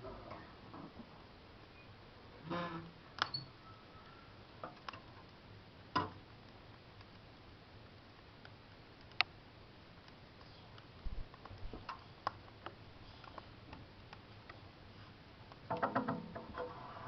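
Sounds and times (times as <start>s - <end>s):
wood fire crackling: 0.0s - 15.8s.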